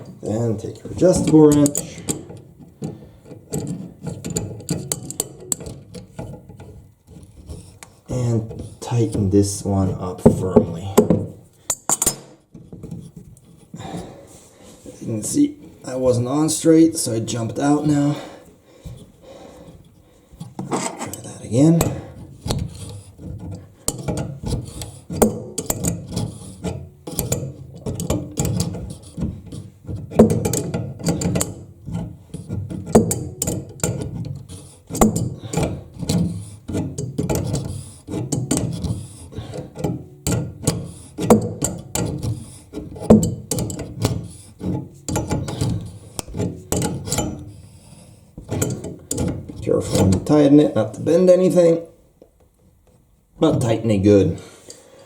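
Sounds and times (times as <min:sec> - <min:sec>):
wrench clicking and scraping on nut: 0:00.0 - 0:14.0, 0:15.2 - 0:51.3.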